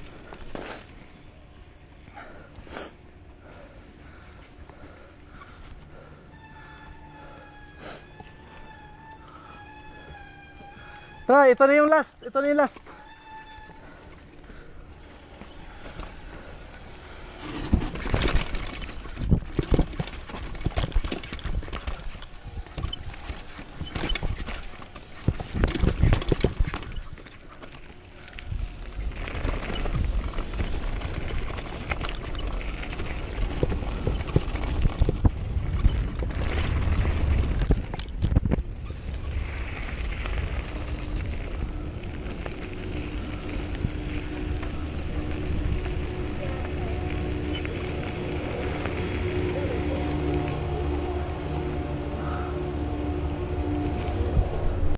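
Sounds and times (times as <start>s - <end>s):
tyres rumbling on gravel: 0.0s - 54.9s
bike frame rattling: 3.4s - 54.6s.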